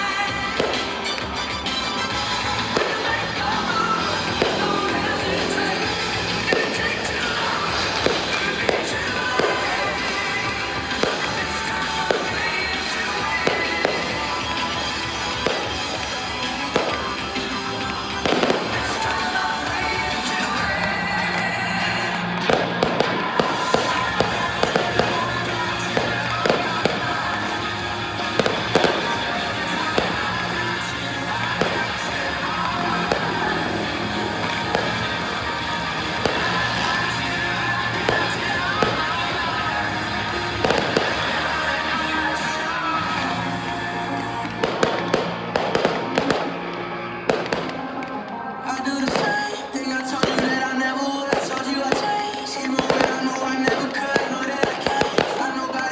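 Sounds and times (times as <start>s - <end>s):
fireworks banging: 0.0s - 55.9s
music playing: 0.0s - 55.9s.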